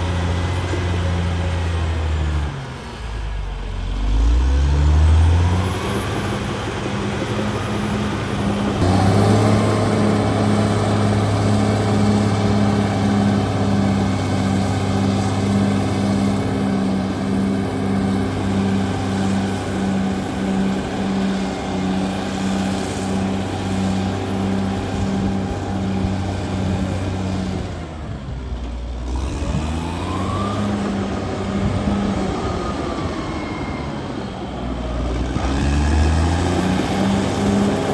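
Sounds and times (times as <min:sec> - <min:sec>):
bulldozer diesel engine throbbing: 0:00.0 - 0:37.9.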